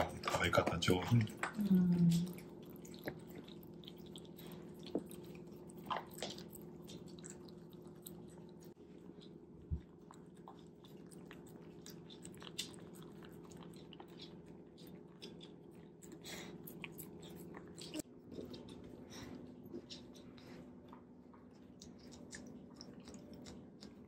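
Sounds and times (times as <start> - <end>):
dog chewing food: 0.0 - 1.6, 2.2 - 24.0.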